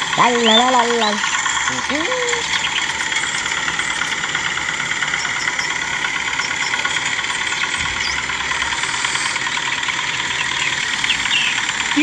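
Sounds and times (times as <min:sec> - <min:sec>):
small motor buzzing whir: 0:00.0 - 0:12.0.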